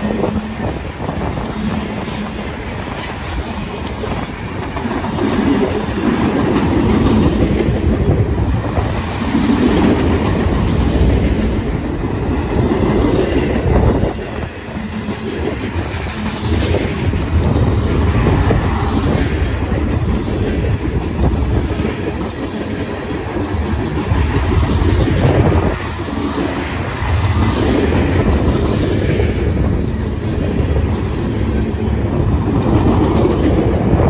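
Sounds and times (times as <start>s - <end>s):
train low rumble: 0.0s - 34.0s.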